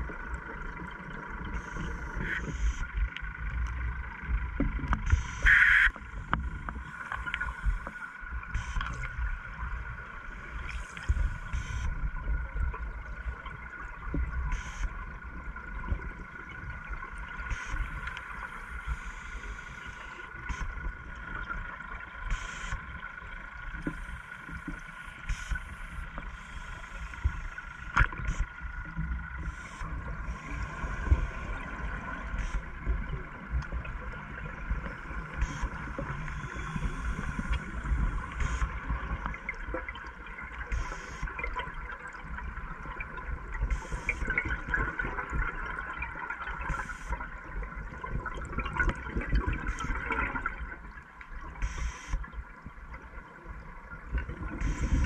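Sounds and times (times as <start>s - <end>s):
steady high hum: 0.0s - 47.9s, 49.6s - 52.9s
scuba regulator bubbles gurgling: 0.0s - 55.0s.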